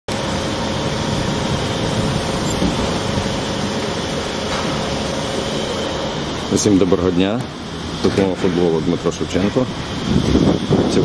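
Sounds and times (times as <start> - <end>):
machinery droning with whine: 0.1 - 11.0.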